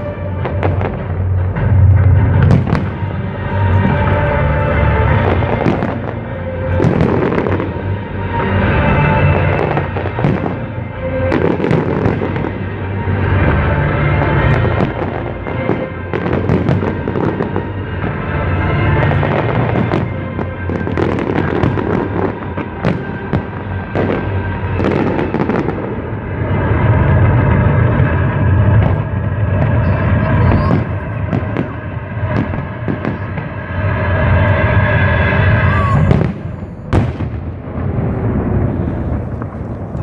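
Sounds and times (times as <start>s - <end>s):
music playing: 0.0s - 39.2s
fireworks bangs and crackling: 0.0s - 40.0s.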